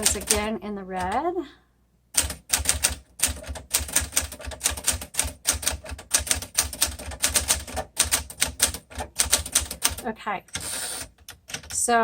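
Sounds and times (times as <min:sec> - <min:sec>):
manual typewriter typing: 0:00.0 - 0:01.2, 0:02.2 - 0:11.9.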